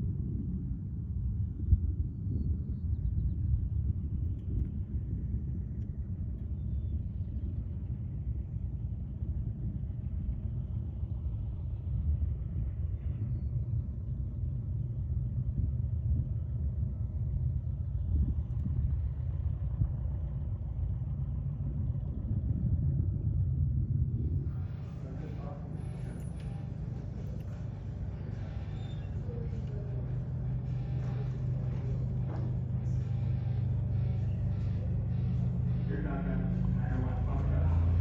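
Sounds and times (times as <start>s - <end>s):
distant aircraft engine rumble: 0.0s - 38.0s.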